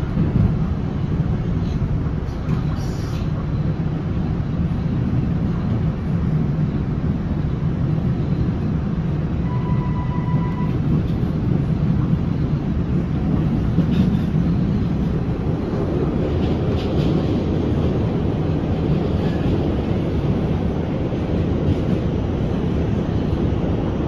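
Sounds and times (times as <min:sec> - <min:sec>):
train car rumble: 0:00.0 - 0:24.0.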